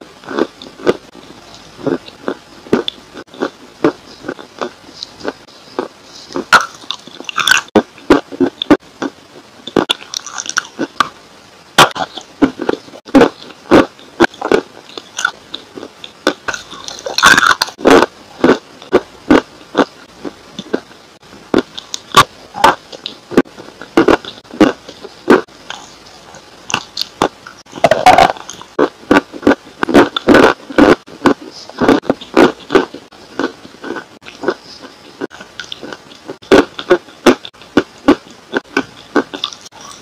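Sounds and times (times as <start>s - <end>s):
crunching and chewing clay: 0.2s - 11.2s, 11.8s - 40.0s.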